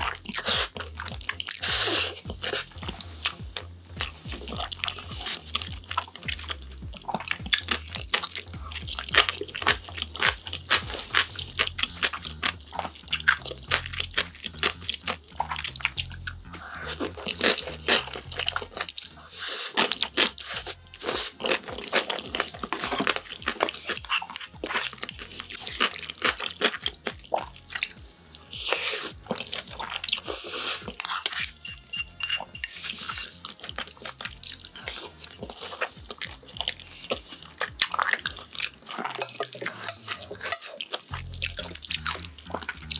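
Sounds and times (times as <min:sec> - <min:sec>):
noodles slurped: 0:00.0 - 0:31.7, 0:32.5 - 0:42.9
chewing: 0:00.0 - 0:42.9
wet mouth clicks and smacks: 0:00.0 - 0:42.9.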